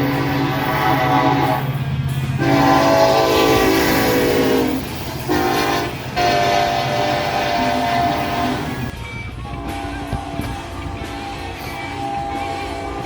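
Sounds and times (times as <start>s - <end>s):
train air horn blasts: 0.0s - 1.8s, 2.4s - 13.0s.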